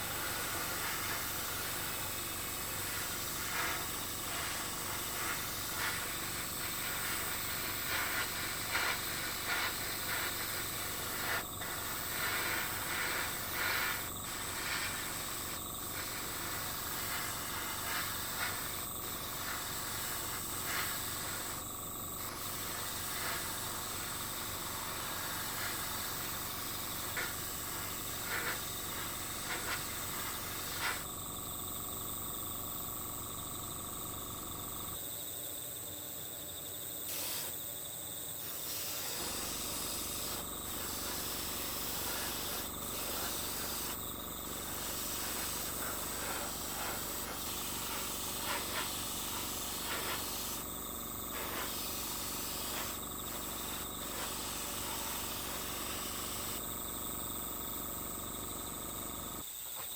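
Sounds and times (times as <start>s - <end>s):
even outdoor hiss: 0.0s - 59.9s.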